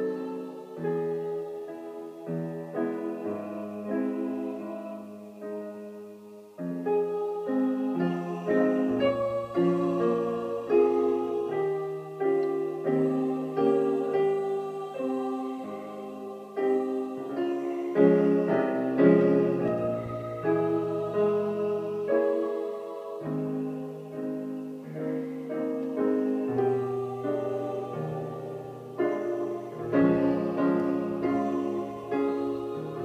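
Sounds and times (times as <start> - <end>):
solo piano playing: 0.0 - 33.0.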